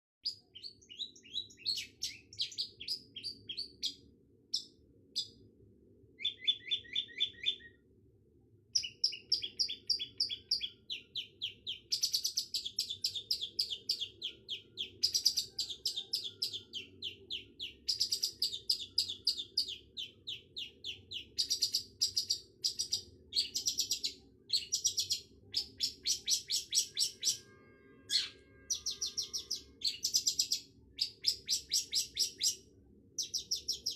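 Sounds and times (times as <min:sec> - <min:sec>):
bird chattering song: 0:00.2 - 0:05.4, 0:06.2 - 0:07.8, 0:08.8 - 0:27.5, 0:28.1 - 0:32.6, 0:33.2 - 0:33.9.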